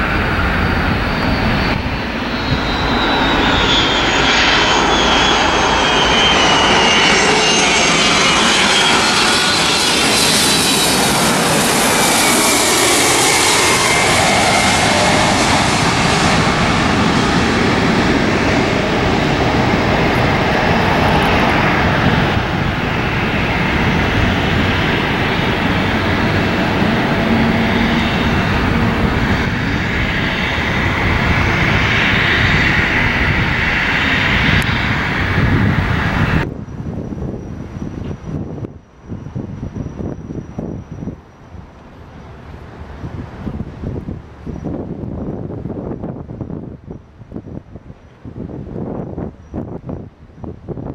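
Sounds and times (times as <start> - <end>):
high engine whine: 0.0 - 46.7
jet airliner passing overhead: 0.0 - 50.9.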